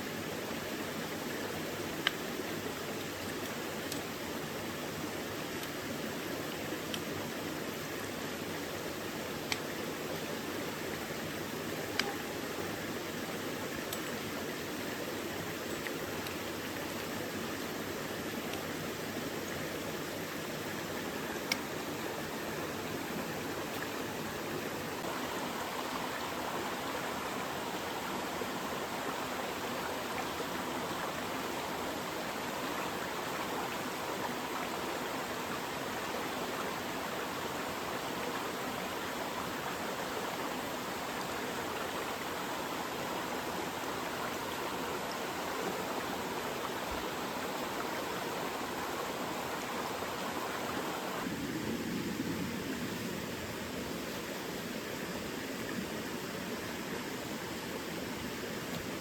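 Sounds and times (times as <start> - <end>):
mountain stream running: 0.0 - 59.0.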